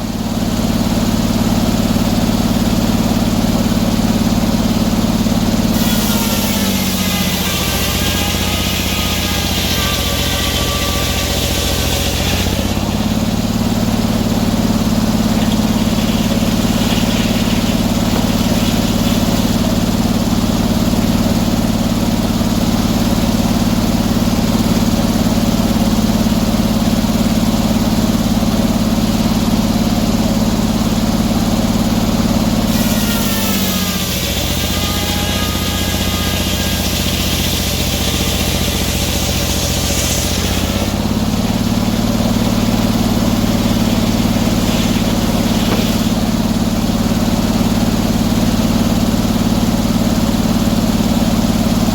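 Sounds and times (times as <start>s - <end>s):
sawmill engine running: 0.0s - 51.9s.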